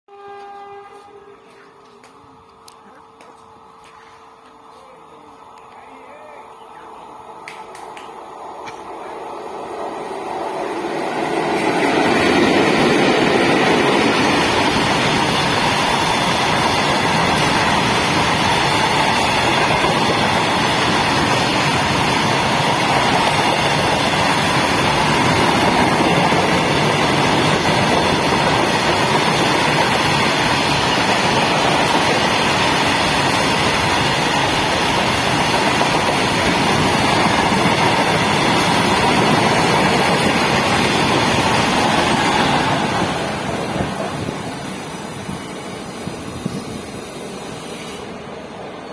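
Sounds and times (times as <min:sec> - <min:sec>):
train wheels on rails: 0:07.4 - 0:48.9.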